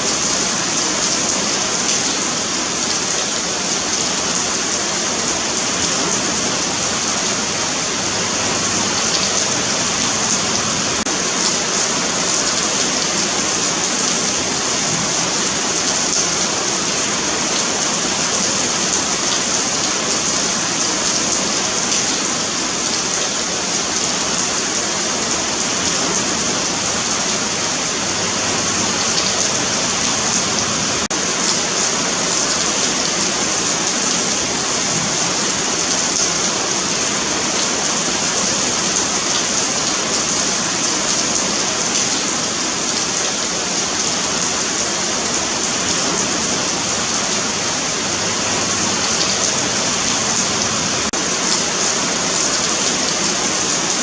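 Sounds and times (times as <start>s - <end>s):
rain pattering on concrete: 0.0s - 54.0s.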